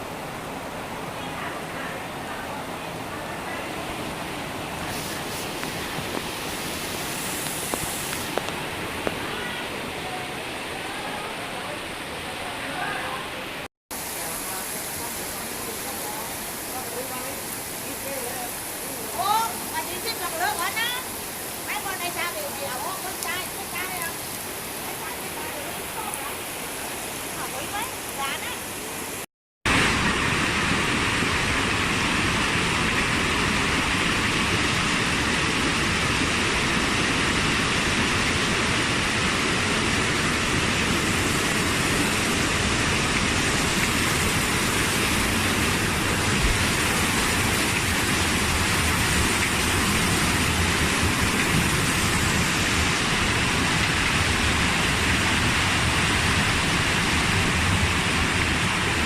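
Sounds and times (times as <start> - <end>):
rushing water in heavy downpour: 0.0 - 59.0.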